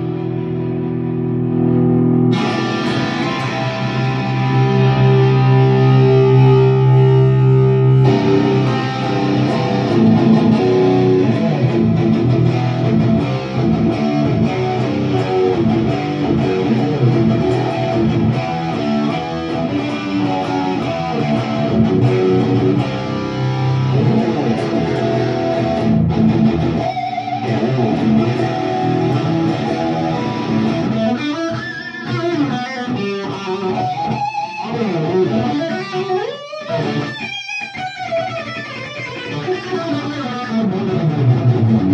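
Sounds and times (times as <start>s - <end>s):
electric guitar lead lines: 0.0s - 41.9s
electric guitar strummed chords: 0.0s - 41.9s.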